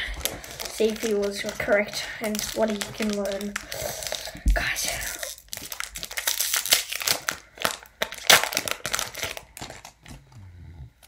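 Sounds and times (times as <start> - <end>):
foil wrapper crinkling: 0.0 - 10.3.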